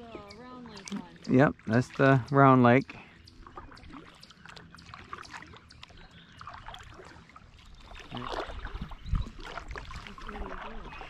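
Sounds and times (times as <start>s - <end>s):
water trickling and dripping: 0.0s - 11.0s.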